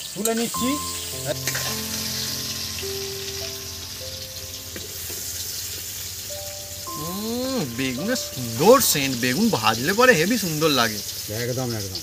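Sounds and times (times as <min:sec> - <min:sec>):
oil sizzling in a wok: 0:00.0 - 0:12.0
soft background music: 0:00.2 - 0:12.0.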